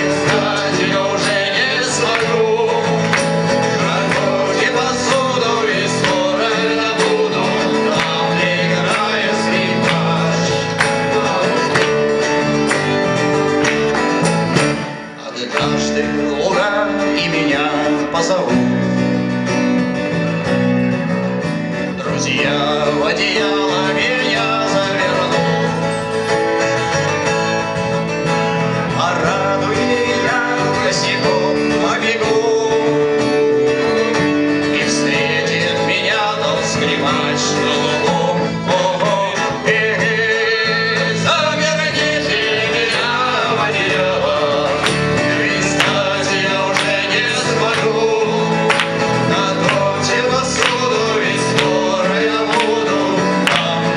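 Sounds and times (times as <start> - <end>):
person singing: 0.0 - 13.0, 14.8 - 18.8, 22.0 - 25.9, 28.9 - 53.9
acoustic guitar: 0.0 - 53.9.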